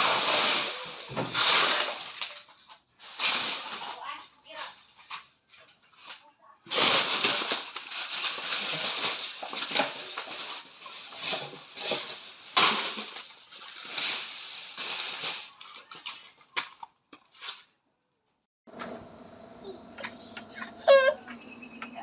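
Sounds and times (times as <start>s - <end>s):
rustling and crunching: 0.0s - 17.8s.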